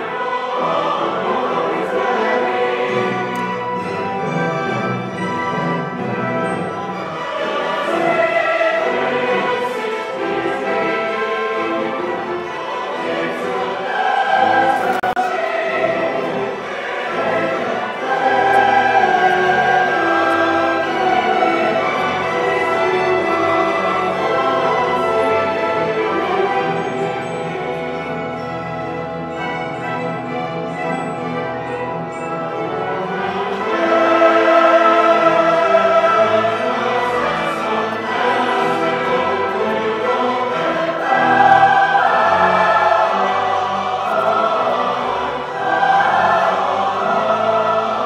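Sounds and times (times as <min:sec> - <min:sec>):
large choir singing: 0:00.0 - 0:48.0
orchestra playing: 0:00.0 - 0:48.0.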